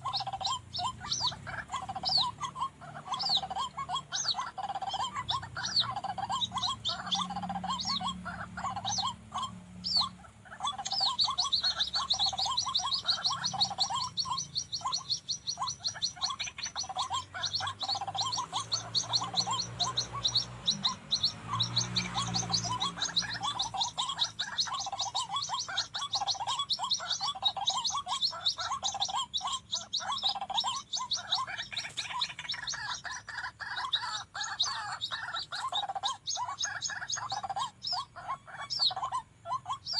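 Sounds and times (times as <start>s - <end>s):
waterhens calling: 0.0s - 39.9s.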